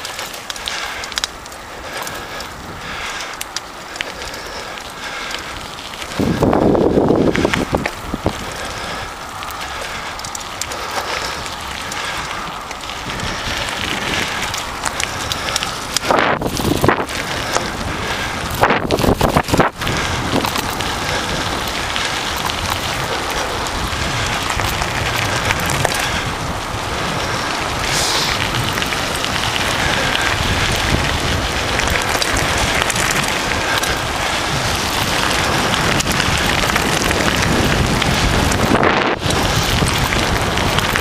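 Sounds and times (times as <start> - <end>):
bike rattling over rough ground: 0.0 - 41.0
bike tyres crunching on gravel: 0.0 - 41.0
wind buffeting microphone: 0.0 - 41.0.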